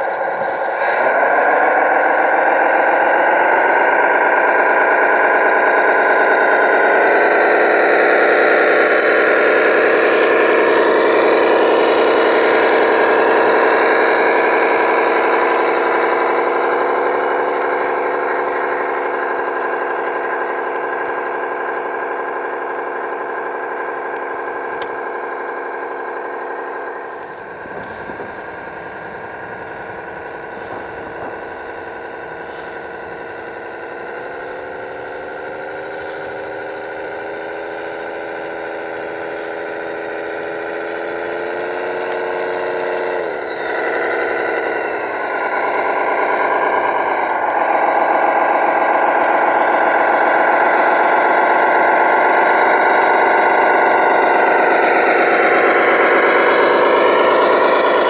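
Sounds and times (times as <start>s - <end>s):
toy truck motor drone: 0.0s - 58.0s.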